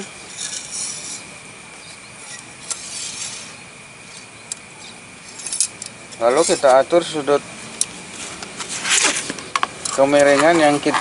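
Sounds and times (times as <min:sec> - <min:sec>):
metal parts rubbing and scraping: 0:00.0 - 0:01.3, 0:02.2 - 0:06.8, 0:08.1 - 0:11.0.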